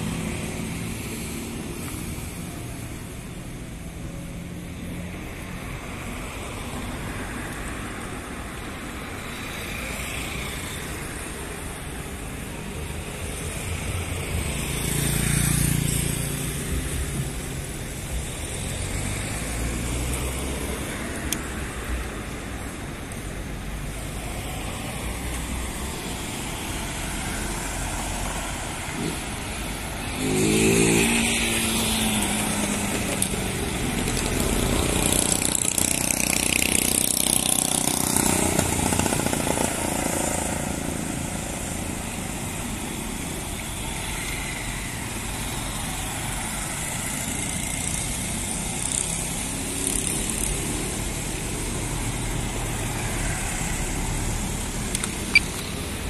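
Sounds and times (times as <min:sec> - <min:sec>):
road traffic rumble: 0:00.0 - 0:56.0
vehicles passing: 0:00.0 - 0:56.0.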